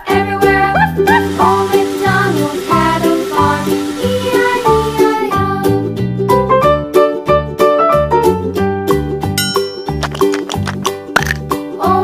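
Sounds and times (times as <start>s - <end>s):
upbeat children's music: 0.0s - 12.0s.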